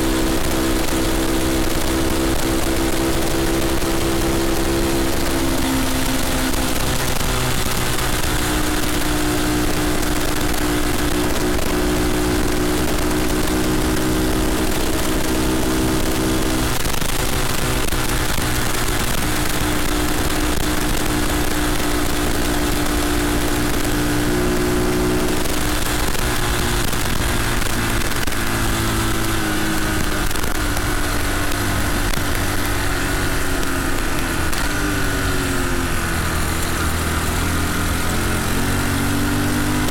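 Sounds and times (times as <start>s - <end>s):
minibike engine running: 0.0s - 39.9s
wind noise: 0.0s - 39.9s.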